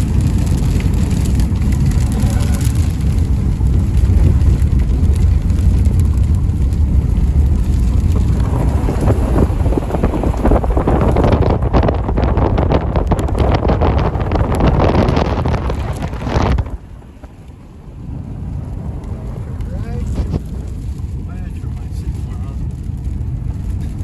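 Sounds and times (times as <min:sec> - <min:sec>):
rain spattering: 0:00.0 - 0:24.0
storm wind buffeting microphone: 0:00.0 - 0:24.0.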